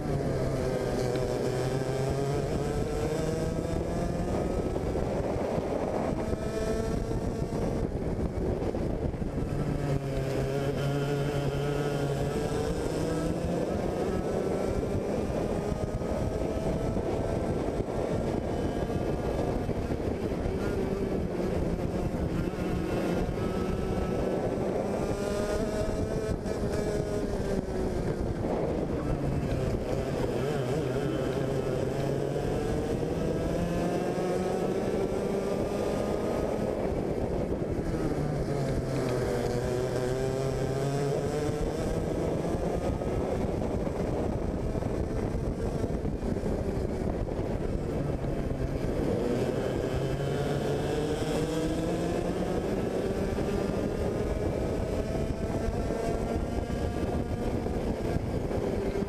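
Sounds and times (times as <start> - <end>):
racing kart engine: 0.0 - 59.0.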